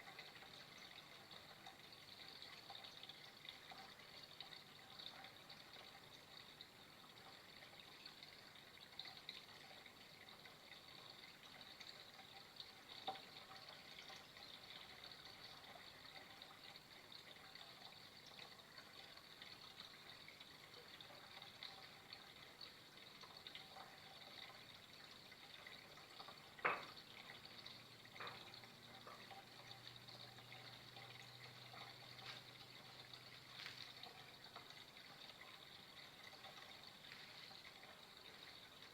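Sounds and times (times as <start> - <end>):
faint flowing water: 0.0 - 38.9.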